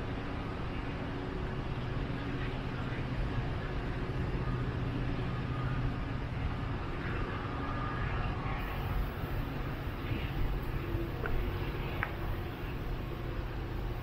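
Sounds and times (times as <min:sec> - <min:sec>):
train engine hum: 0:00.0 - 0:14.0
train rumbling: 0:00.0 - 0:14.0.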